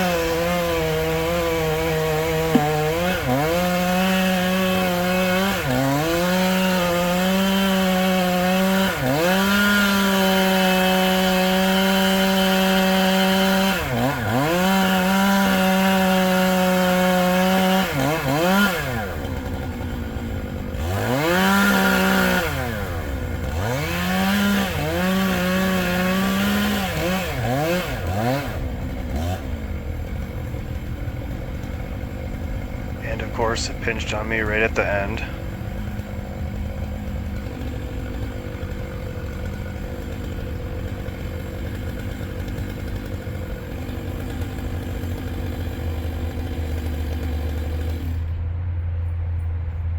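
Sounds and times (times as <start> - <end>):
chainsaw revving: 0.0 - 48.3
chainsaw cutting wood: 0.0 - 48.4.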